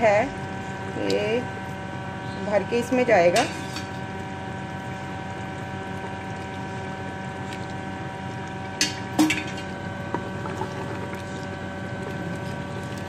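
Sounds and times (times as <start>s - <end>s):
steady hum with held tones: 0.0s - 13.0s.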